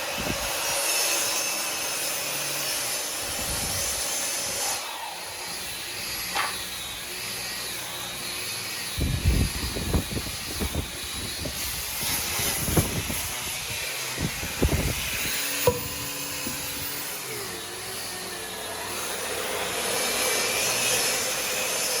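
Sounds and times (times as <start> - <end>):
woodworking power tool whining: 0.0 - 22.0.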